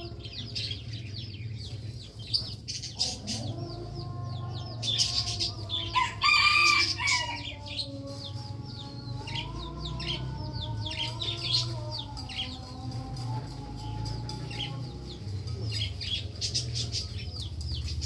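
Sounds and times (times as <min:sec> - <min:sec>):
small birds chirping: 0:00.0 - 0:18.0
roosters crowing: 0:02.4 - 0:18.0.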